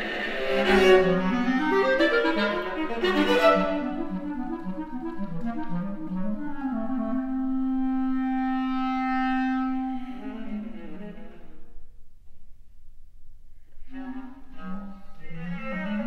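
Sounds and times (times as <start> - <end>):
clarinet: 0.0 - 11.8, 13.7 - 16.0
viola: 0.0 - 12.0, 13.6 - 16.0.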